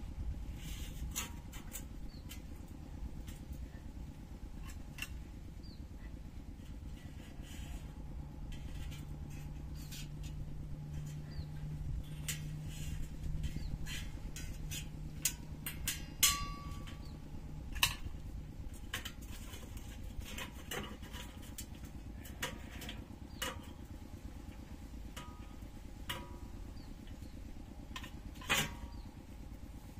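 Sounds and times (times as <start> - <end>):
low engine-like rumble: 0.0 - 29.9.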